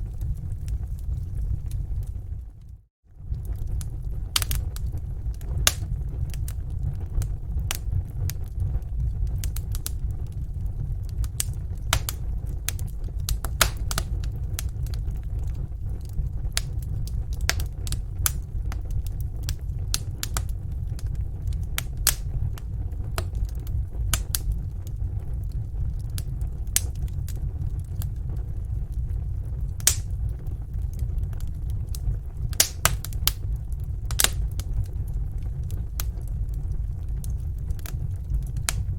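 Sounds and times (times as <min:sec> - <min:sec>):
steady low rumble: 0:00.0 - 0:38.9
wood fire crackling and popping: 0:00.0 - 0:38.9.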